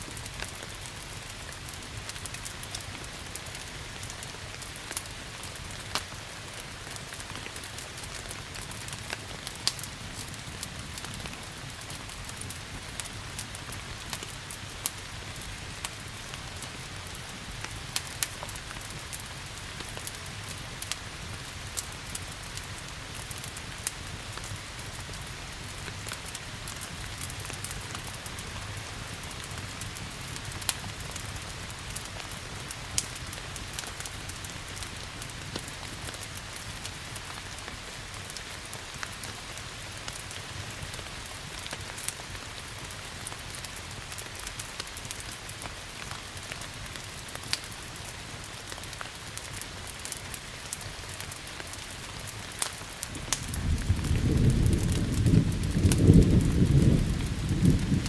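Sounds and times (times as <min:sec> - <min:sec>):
log fire crackling: 0:00.0 - 0:58.0
steady rain: 0:00.0 - 0:58.0.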